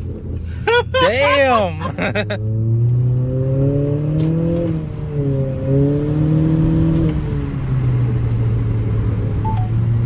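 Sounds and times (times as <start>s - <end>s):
car engine accelerating: 1.4s - 10.0s.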